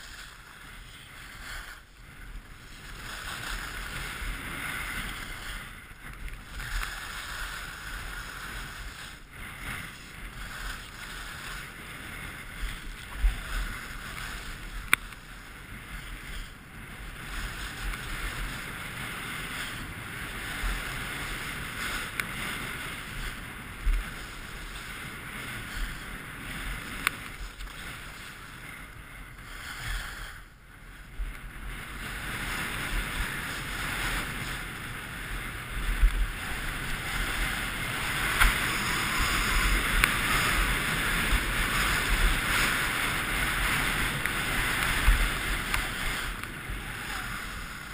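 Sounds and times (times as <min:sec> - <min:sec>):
skis scraping over snow: 0:00.0 - 0:47.9
wind rushing over microphone: 0:00.0 - 0:47.9.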